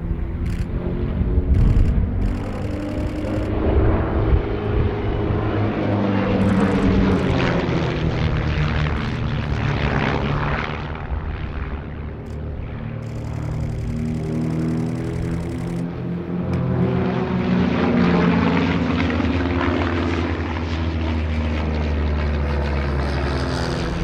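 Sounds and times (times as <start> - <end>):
propeller aircraft flying past: 0.0 - 24.0.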